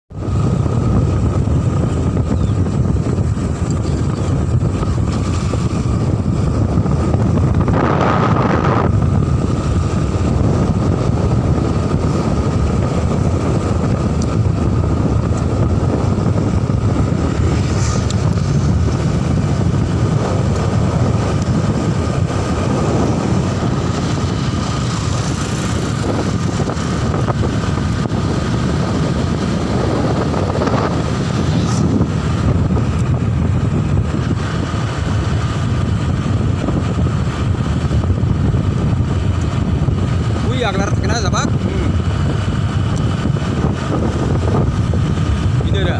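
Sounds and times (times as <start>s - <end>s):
motorcycle engine drone: 0.1s - 45.9s
wind buffeting microphone: 0.1s - 45.9s.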